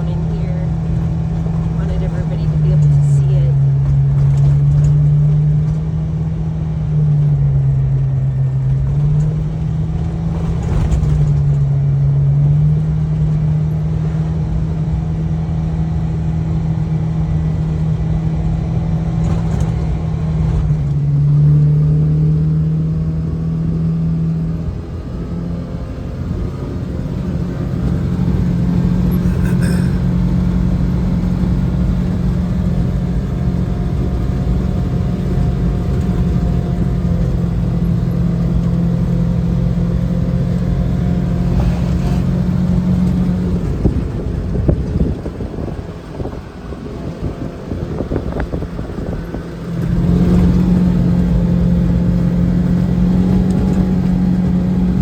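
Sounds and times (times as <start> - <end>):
rumble of the drive: 0.0 - 55.0
vehicle engine droning: 0.0 - 55.0.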